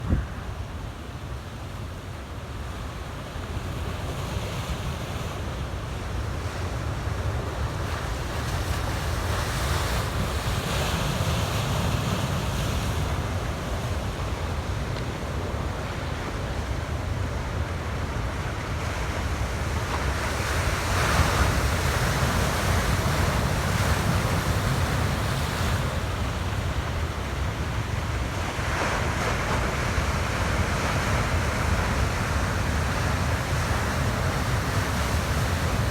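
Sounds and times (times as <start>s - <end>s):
surf washing onto beach: 6.6s - 35.9s.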